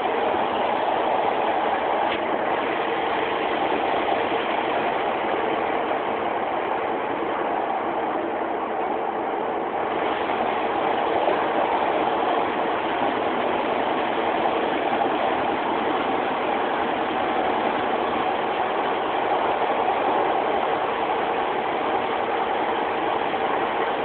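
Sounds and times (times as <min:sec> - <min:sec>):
train diesel engine drone: 0:00.0 - 0:24.0.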